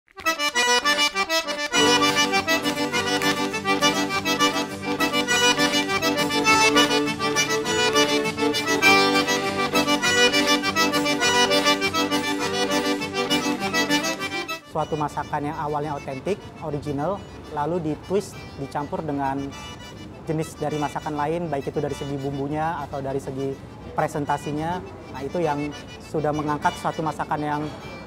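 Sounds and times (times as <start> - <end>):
instrumental background music: 0.1 - 28.0.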